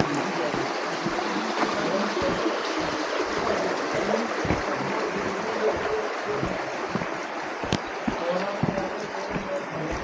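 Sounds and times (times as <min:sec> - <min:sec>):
running water rushing: 0:00.0 - 0:10.0
soft low thumps: 0:00.0 - 0:10.0.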